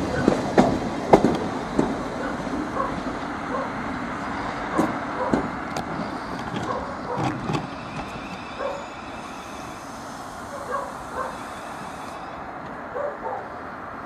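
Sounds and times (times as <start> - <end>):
wheels knocking over rail joints: 0.0 - 3.3, 4.7 - 13.1
electric train pulling away: 0.0 - 14.0.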